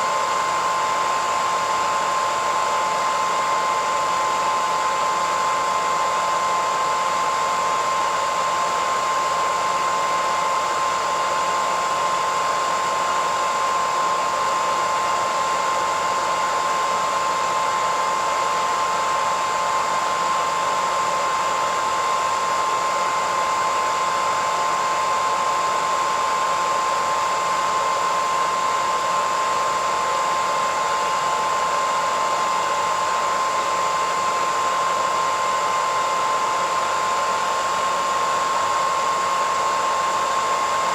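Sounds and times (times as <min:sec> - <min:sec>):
hairdryer blowing: 0:00.0 - 0:40.9.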